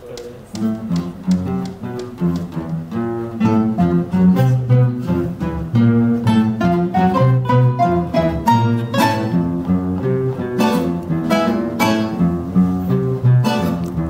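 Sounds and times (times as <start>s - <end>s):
classical guitar ensemble: 0.0s - 14.0s.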